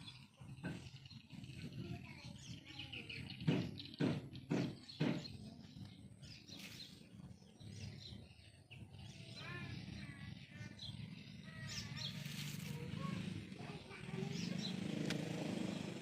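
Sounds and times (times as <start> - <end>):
bird chirping: 0.0 - 15.9.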